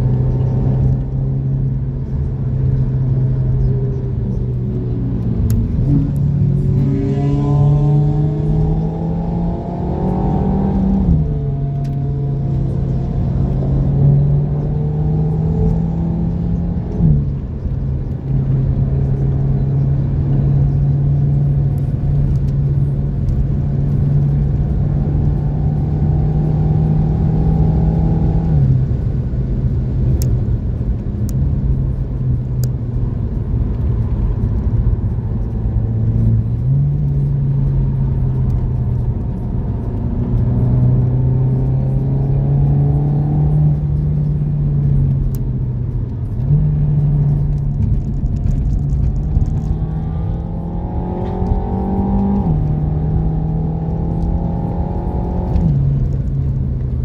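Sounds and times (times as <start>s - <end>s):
car engine pulling hard: 0.0s - 57.0s
road rumble: 0.0s - 57.0s.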